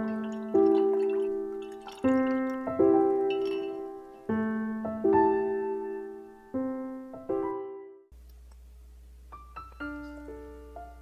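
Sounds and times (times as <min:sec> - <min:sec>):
soft piano chords: 0:00.0 - 0:08.1, 0:09.3 - 0:11.0.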